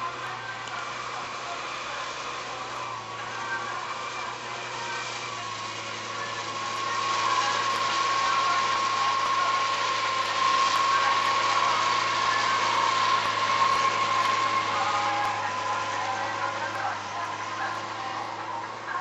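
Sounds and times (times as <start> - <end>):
vehicle engine running with whine: 0.0 - 19.0.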